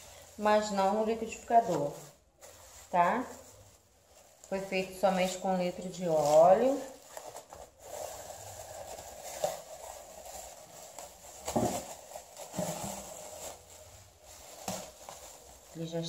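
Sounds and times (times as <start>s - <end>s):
plastic bag crinkling and rustling: 0.0s - 16.0s.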